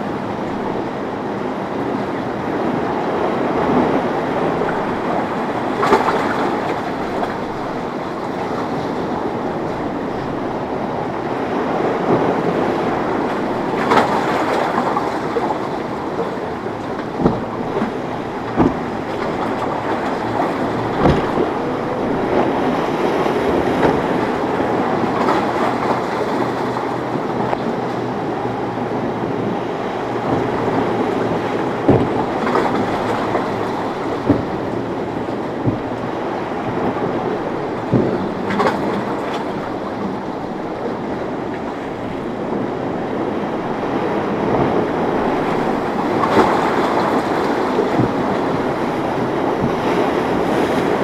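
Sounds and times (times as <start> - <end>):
powerboat engines at speed: 0.0 - 51.0
water rushing off hulls: 0.0 - 51.0.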